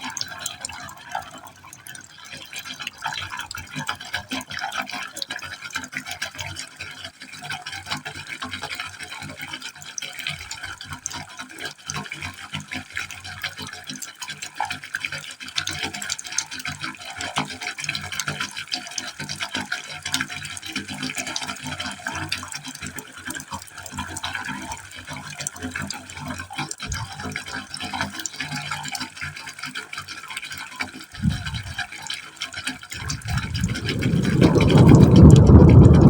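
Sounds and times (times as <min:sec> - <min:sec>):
water splashing into pipe: 0:00.0 - 0:36.0.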